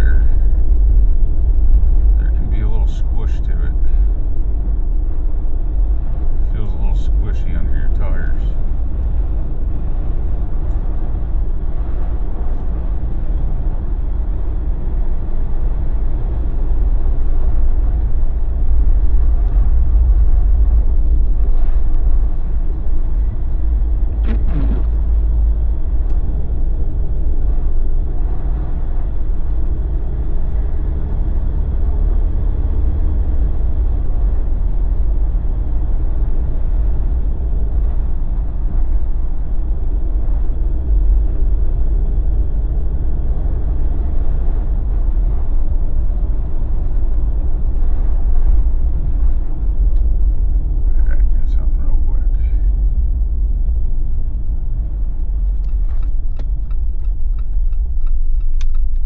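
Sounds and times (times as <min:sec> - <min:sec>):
engine and tyres rumbling: 0:00.0 - 0:59.0.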